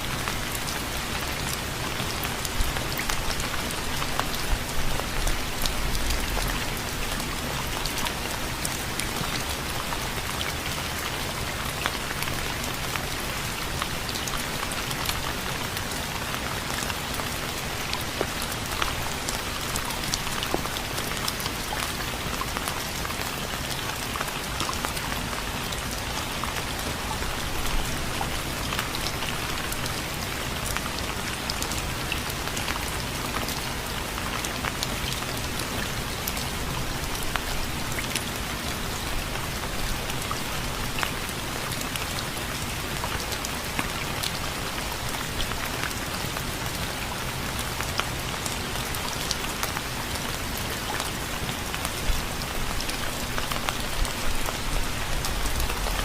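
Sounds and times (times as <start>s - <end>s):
raindrops pattering on hard surface: 0.1s - 56.0s.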